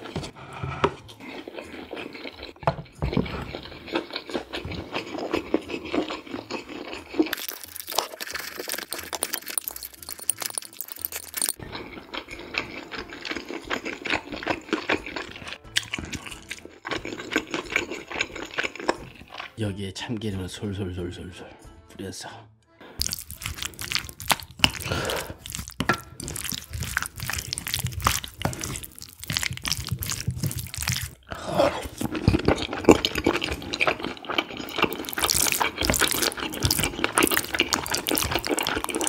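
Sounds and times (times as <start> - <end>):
chopsticks scraping a plate: 0.0 - 15.5, 22.9 - 39.0
person chewing: 0.0 - 19.6, 22.8 - 39.0.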